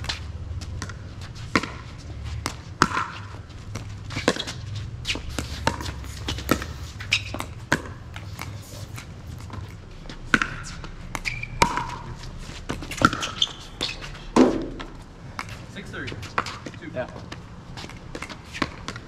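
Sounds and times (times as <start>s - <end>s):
ball bouncing on court: 0.0s - 8.6s, 9.3s - 19.0s.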